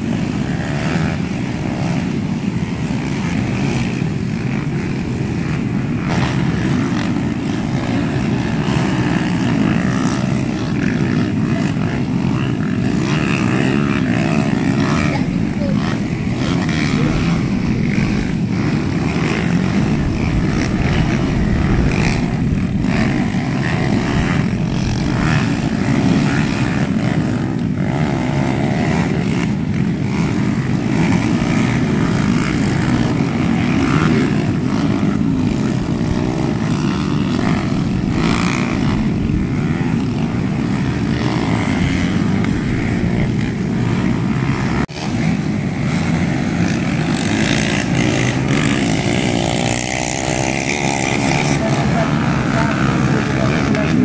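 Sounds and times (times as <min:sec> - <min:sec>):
motorcycle engines droning: 0:00.0 - 0:54.0.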